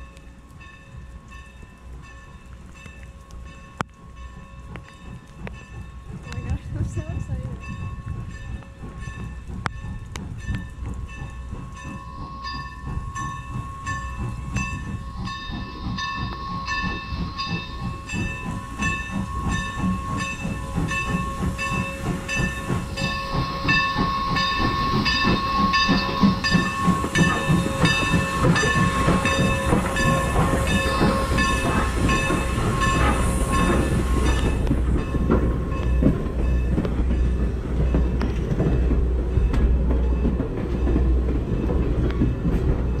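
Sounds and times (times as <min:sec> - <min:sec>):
evenly pulsing ringing: 0:00.0 - 0:43.0
steam locomotive chuffing and hissing: 0:00.0 - 0:43.0.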